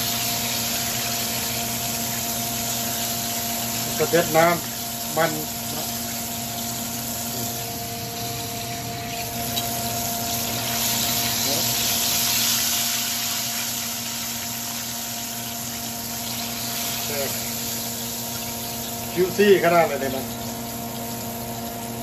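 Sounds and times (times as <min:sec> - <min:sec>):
chicken deep-frying sizzle: 0:00.0 - 0:22.0
steady hum: 0:00.0 - 0:22.0.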